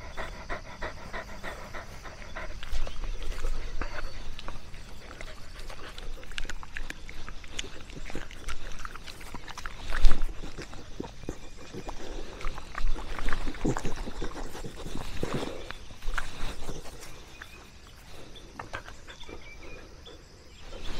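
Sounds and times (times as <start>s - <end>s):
dog breathing: 0.0s - 20.9s.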